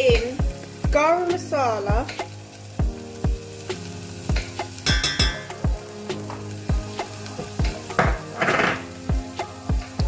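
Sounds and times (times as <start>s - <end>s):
background music with a beat: 0.0s - 10.0s
spices frying in oil: 0.0s - 10.0s.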